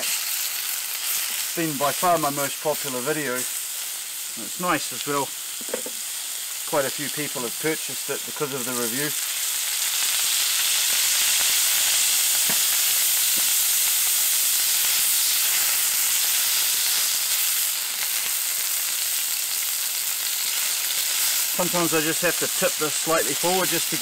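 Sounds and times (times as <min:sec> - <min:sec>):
food sizzling on a griddle: 0:00.0 - 0:24.0.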